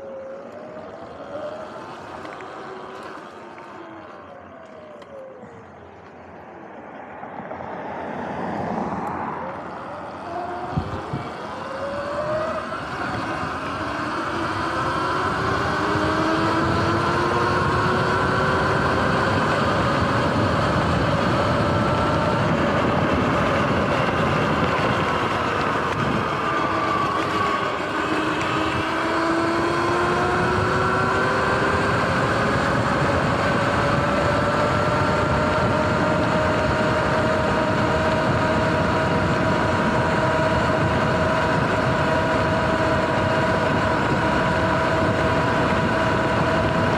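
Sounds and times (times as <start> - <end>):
electric motor whine rising: 0.0 - 46.9
wind rushing over microphone: 6.6 - 46.9.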